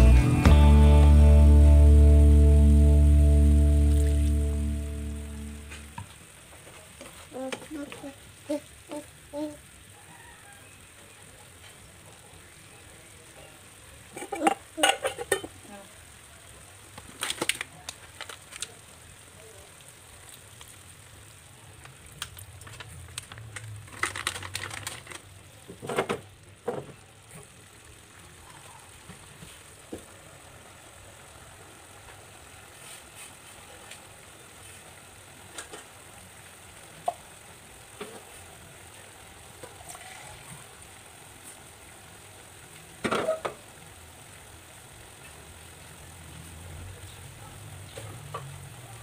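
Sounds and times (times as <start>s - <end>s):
food sizzling in a frying pan: 0.0s - 49.0s.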